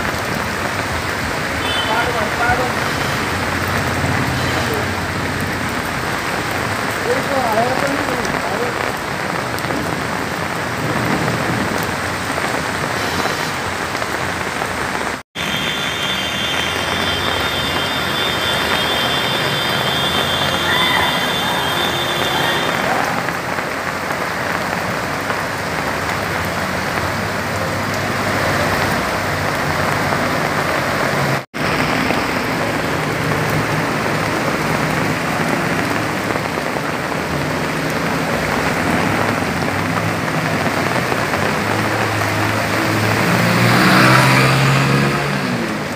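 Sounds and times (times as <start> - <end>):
heavy rain pouring: 0.0 - 45.9
splashing through floodwater: 0.0 - 45.9.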